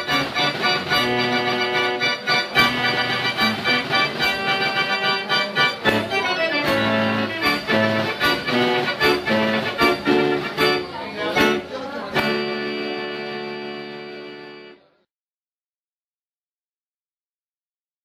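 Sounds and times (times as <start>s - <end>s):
fair organ playing: 0.0s - 14.9s.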